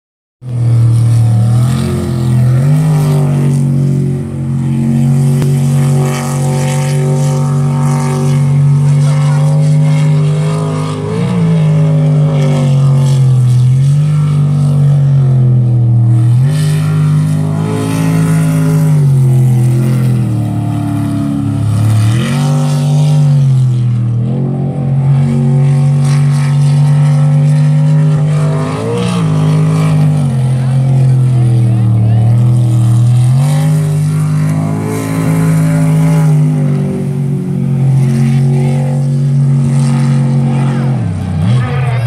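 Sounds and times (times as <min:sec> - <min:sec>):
boat engine running hard: 0:00.4 - 0:42.0.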